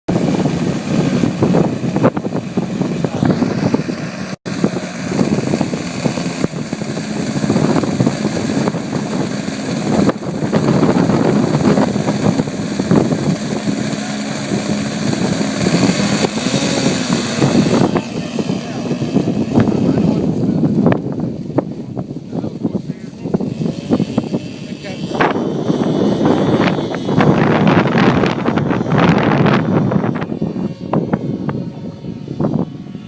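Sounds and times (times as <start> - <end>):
model aircraft engines humming: 0.1 - 33.0.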